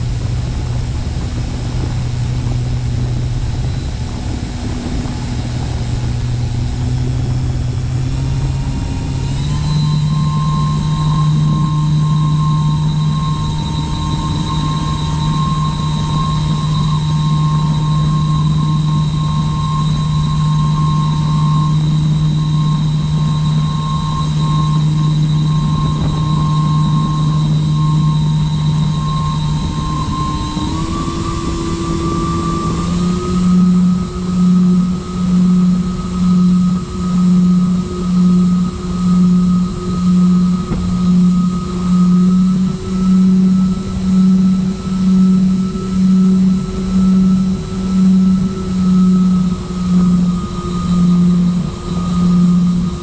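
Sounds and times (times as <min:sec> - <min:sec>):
model plane motors and propellers: 0:00.0 - 0:53.0.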